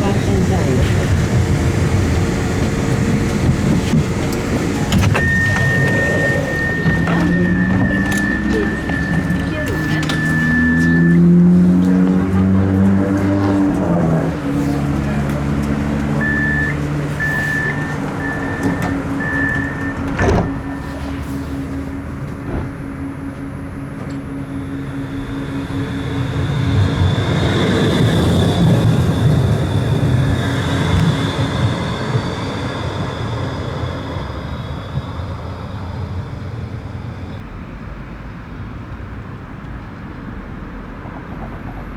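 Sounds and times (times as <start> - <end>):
steady high whine: 0.0 - 37.4
tram wheels on track: 0.0 - 41.9.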